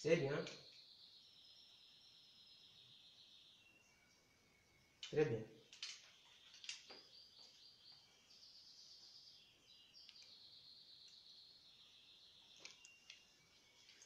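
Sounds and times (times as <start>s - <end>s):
faint bird singing: 0.0s - 14.0s.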